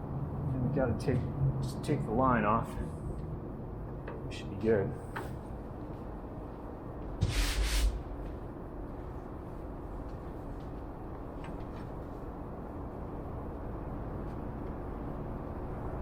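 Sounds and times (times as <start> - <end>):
low workshop hum: 0.0 - 16.0.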